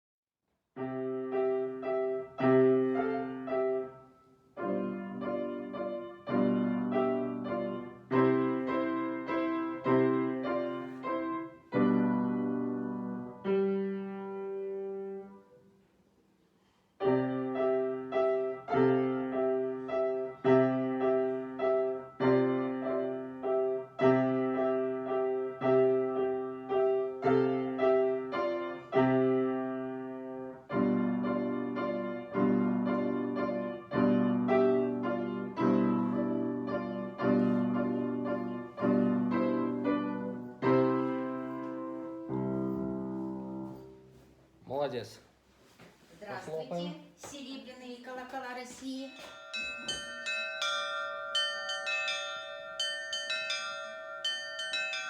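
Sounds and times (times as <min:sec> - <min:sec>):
slow piano piece: 0:00.8 - 0:45.1.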